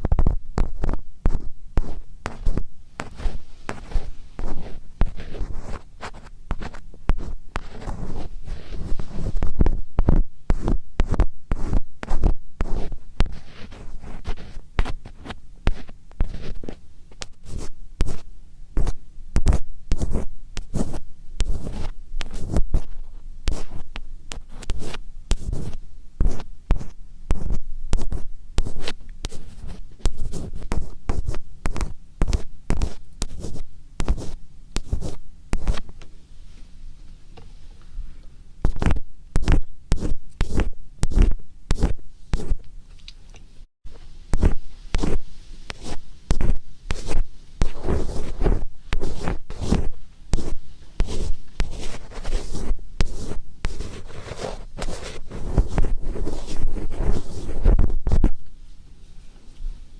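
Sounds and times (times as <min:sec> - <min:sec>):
scratching on microphone: 0:00.0 - 0:35.9, 0:38.6 - 0:42.6, 0:43.9 - 0:58.5.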